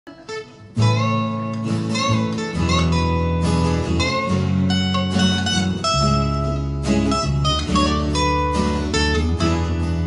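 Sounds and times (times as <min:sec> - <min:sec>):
bass guitar: 0:00.1 - 0:10.0
picked lead guitar: 0:00.1 - 0:10.0
strummed acoustic guitars: 0:00.1 - 0:10.0.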